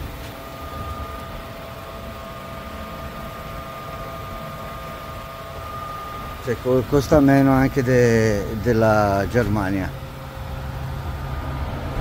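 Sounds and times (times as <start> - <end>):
faint whining tones: 0.0 - 12.0.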